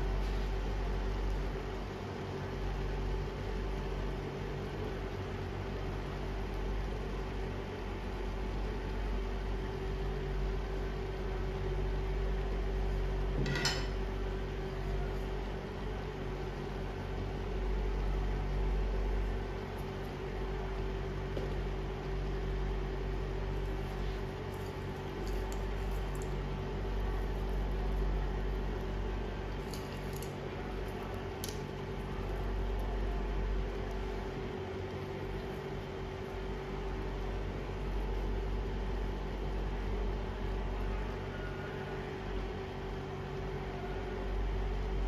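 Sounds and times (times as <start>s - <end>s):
induction cooktop hum: 0.0s - 45.0s.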